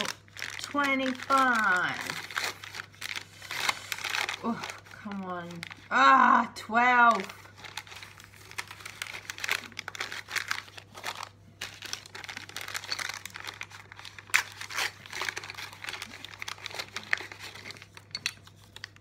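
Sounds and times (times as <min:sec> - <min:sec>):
plastic packet crinkling and tearing: 0:00.0 - 0:19.0.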